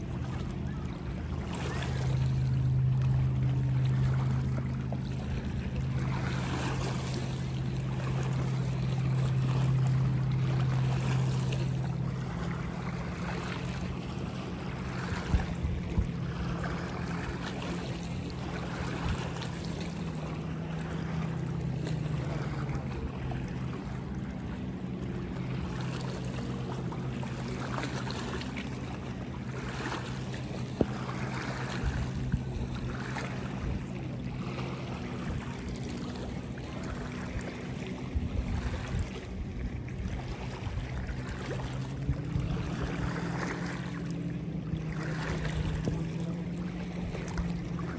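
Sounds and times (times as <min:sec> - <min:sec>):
distant motorboat droning: 0:00.0 - 0:47.9
small waves lapping at shore: 0:00.0 - 0:47.9.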